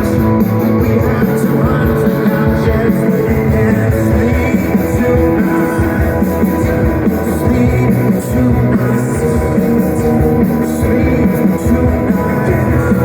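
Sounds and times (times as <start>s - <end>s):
muffled live rock band: 0.0s - 13.0s.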